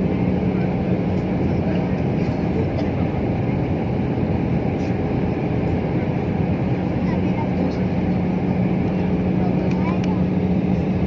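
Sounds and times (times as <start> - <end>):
engine and airflow rush: 0.0 - 11.0.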